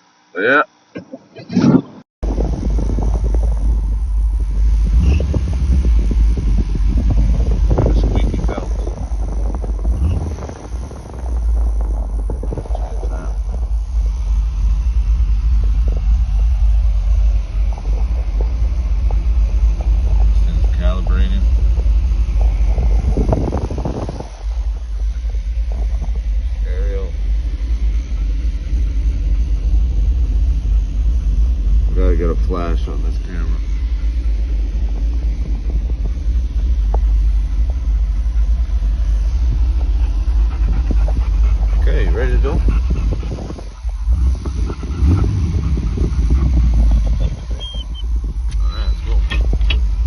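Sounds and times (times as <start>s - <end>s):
low rumble of vehicle: 2.2s - 50.0s
van engine idling: 2.2s - 50.0s.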